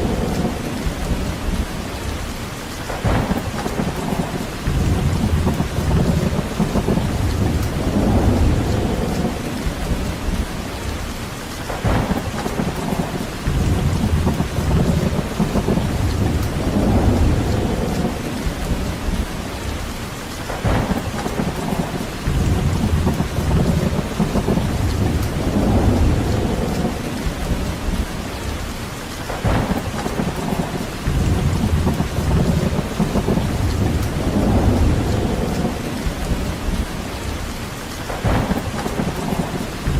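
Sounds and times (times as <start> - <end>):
steady rain: 0.0 - 39.9
wind in trees: 0.0 - 39.9.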